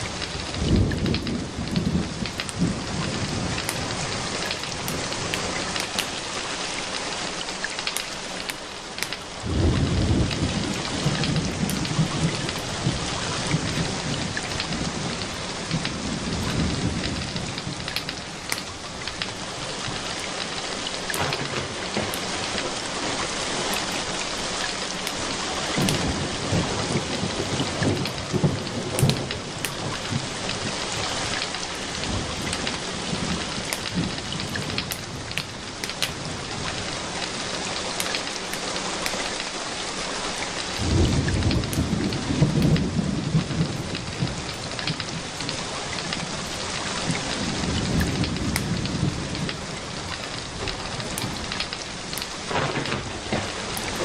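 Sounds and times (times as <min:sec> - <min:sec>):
low rolling thunder: 0:00.0 - 0:06.2, 0:09.4 - 0:37.7, 0:40.7 - 0:54.0
steady rain falling: 0:00.0 - 0:54.0
wood fire crackling: 0:00.0 - 0:54.0.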